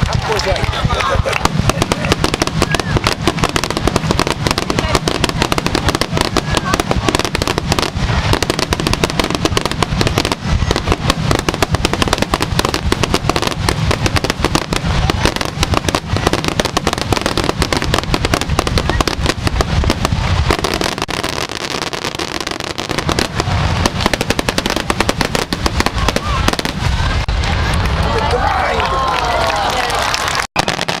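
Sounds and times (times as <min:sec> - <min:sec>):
fireworks bangs and crackles: 0:00.0 - 0:28.6, 0:30.3 - 0:31.0.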